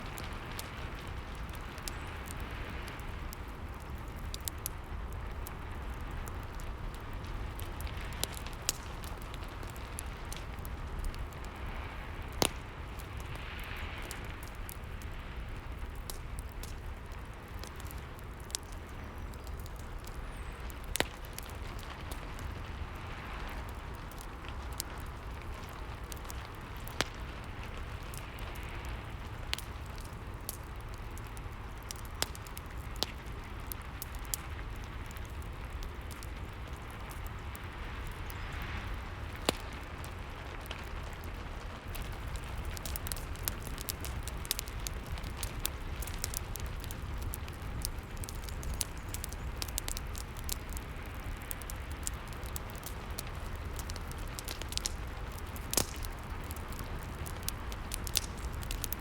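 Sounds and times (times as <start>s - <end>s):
fireplace crackling and popping: 0.0s - 59.0s.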